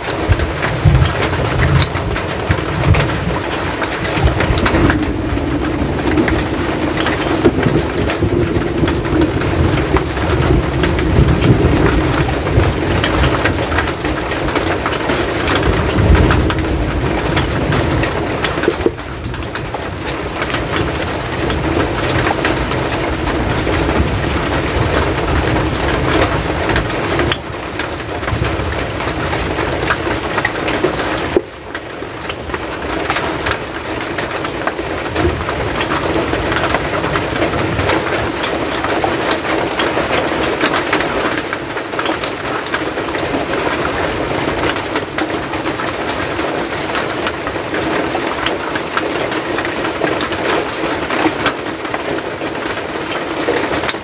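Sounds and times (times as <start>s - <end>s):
rain pattering on roof and ground: 0.0s - 54.0s.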